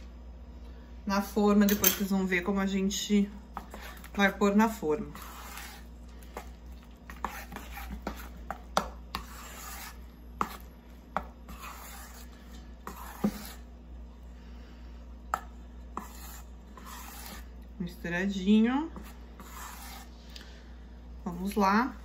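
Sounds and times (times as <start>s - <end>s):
spoon stirring thick dough: 1.3s - 20.7s.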